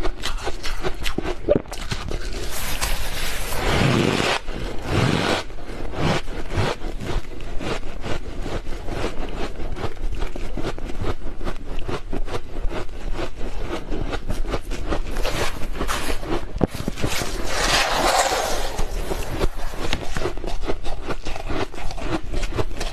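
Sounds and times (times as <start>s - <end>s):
frost being chewed crunching: 0.0s - 22.9s.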